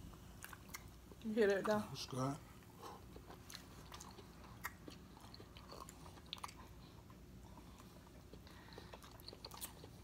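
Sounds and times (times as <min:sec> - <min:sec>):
chewing and eating mouth sounds: 0:00.1 - 0:01.2, 0:02.6 - 0:10.0.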